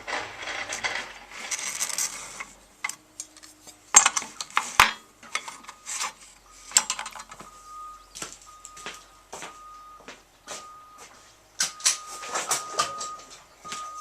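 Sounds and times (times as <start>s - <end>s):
tools and wood rustling and clattering: 0.0s - 14.0s.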